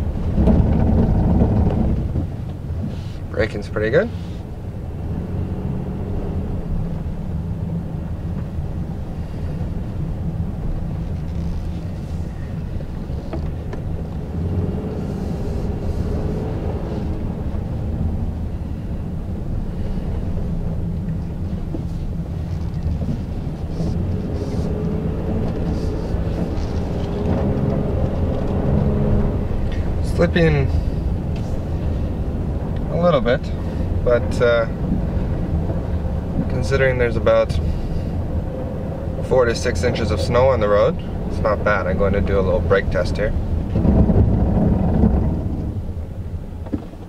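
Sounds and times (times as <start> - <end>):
engine and tyres rumbling: 0.0 - 47.0.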